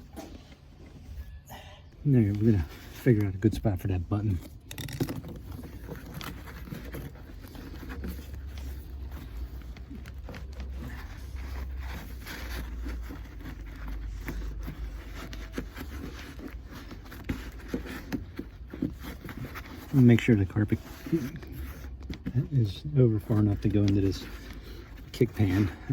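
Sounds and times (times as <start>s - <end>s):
carpet rustling and scraping: 0.0s - 25.9s.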